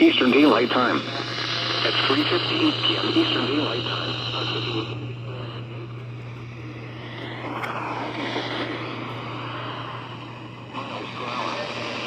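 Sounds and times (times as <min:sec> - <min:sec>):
engine noise: 0:00.0 - 0:12.0
steady low hum: 0:00.0 - 0:12.0.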